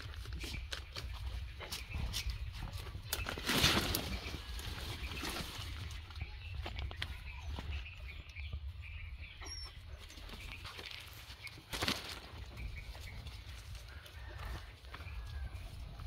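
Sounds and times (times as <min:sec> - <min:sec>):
wind rumble on microphone: 0:00.0 - 0:10.6, 0:12.4 - 0:16.0
bird chirp: 0:00.0 - 0:16.0.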